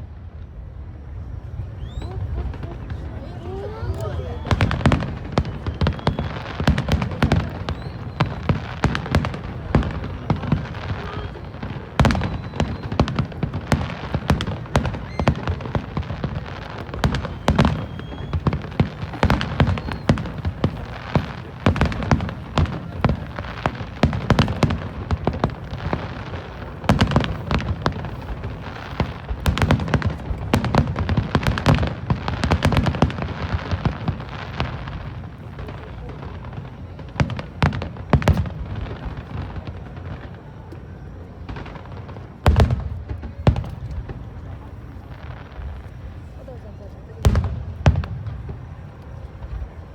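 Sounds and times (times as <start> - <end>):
fireworks booming and crackling: 0.0 - 49.9
firework shell whistling: 1.6 - 46.6.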